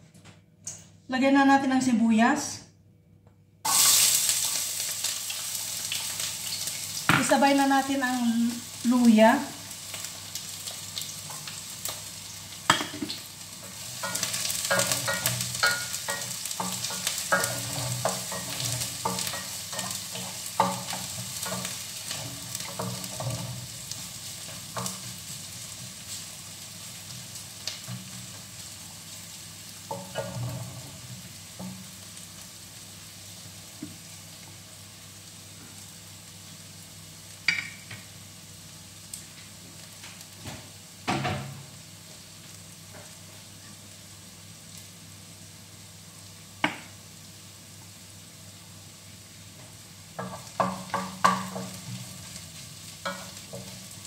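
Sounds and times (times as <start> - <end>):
food sizzling in hot oil: 3.6 - 54.0.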